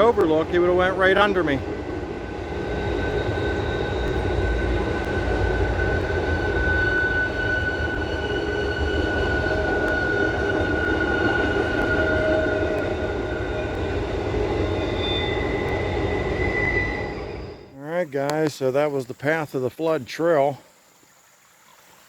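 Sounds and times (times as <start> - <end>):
high-pitched ringing tones: 0.0 - 17.8
train rumbling past: 0.0 - 17.8.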